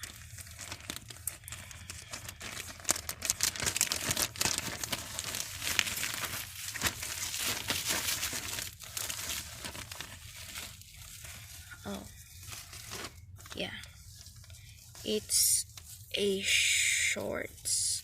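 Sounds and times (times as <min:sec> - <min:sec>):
packaging tearing and crinkling: 0:00.0 - 0:14.6.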